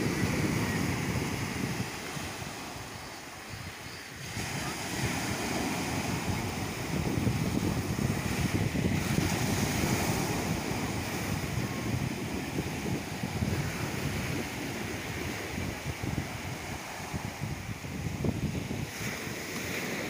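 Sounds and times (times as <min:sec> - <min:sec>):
small waves breaking on beach: 0:00.0 - 0:20.0
wind buffeting microphone: 0:00.0 - 0:20.0.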